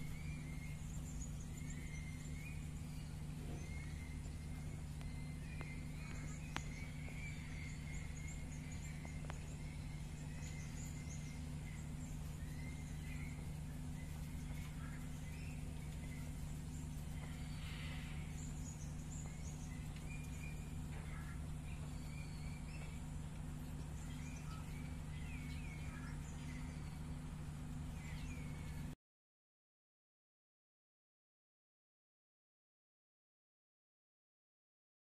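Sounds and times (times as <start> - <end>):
high bird chirps: 0.0 - 28.9
steady low hum: 0.0 - 29.0.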